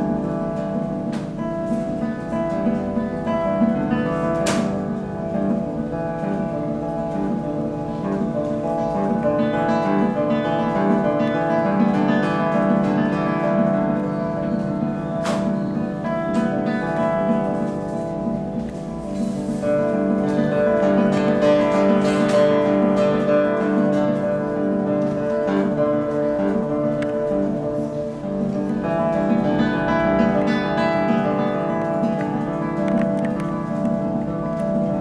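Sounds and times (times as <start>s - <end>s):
fingerpicked classical guitar: 0.0s - 35.0s.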